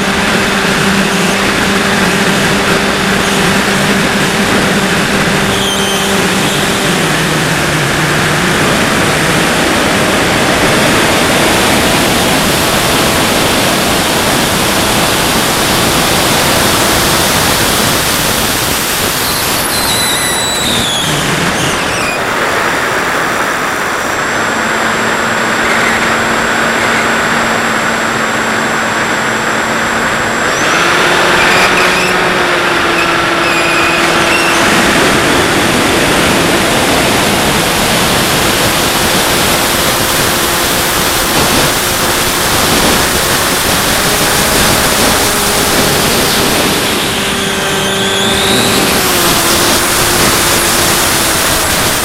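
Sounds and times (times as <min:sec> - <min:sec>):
wind rushing over camera: 0:00.0 - 0:33.4, 0:34.0 - 0:52.0
electric motor and propeller humming: 0:00.0 - 0:52.0.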